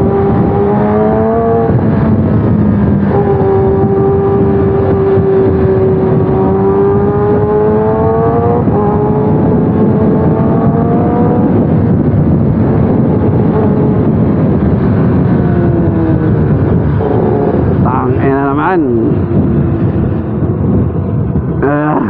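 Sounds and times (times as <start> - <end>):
motorcycle engine running: 0.0 - 17.8
road and wind noise: 0.0 - 22.0.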